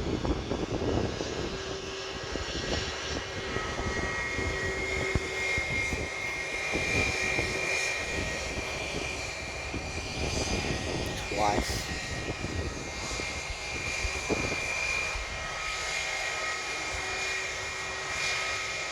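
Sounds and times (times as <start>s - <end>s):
jet engines whining and rumbling: 0.0s - 18.9s.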